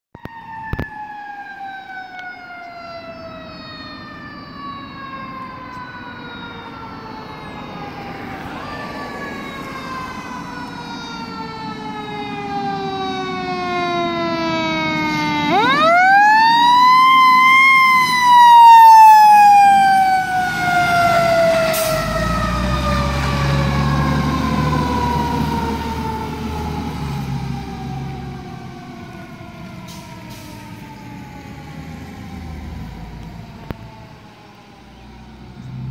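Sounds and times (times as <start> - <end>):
mechanical siren wailing: 0.2 - 35.9
truck engine rumble: 1.8 - 35.9.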